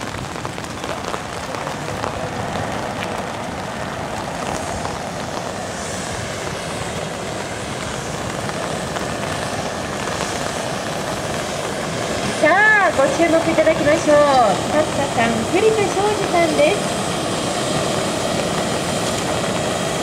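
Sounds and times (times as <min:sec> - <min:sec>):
fireworks spraying sparks hissing: 0:00.0 - 0:20.0.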